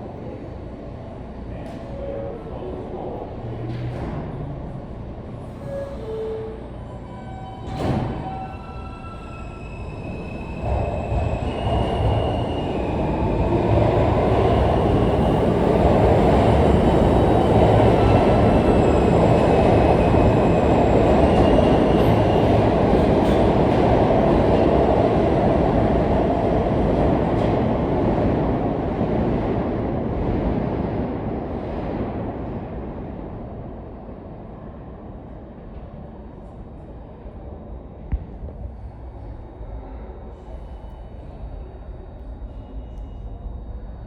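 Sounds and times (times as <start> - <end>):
subway train wheel rumble: 0.0 - 44.0.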